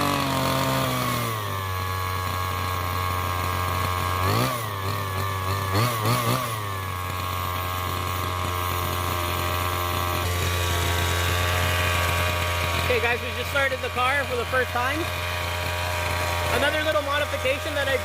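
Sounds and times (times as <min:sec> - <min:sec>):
small two-stroke engine revving: 0:00.0 - 0:18.0.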